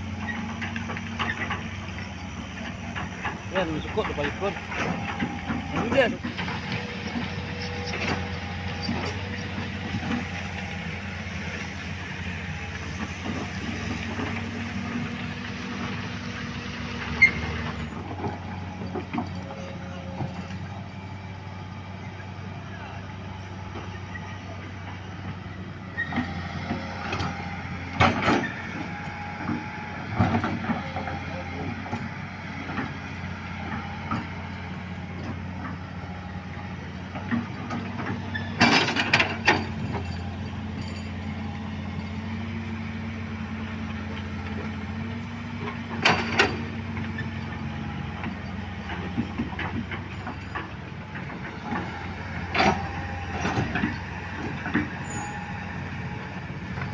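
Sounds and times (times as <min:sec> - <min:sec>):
heavy engine running: 0:00.0 - 0:56.9.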